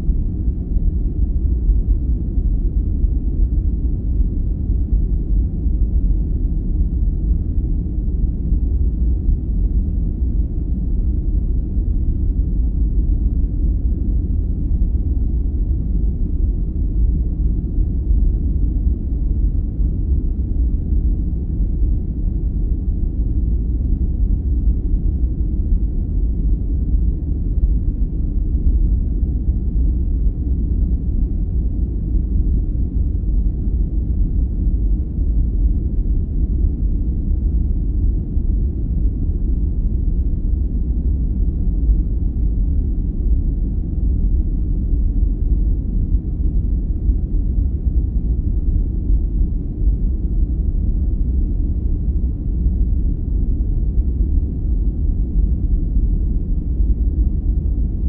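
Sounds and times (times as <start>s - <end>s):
deep brown noise: 0.0s - 58.0s.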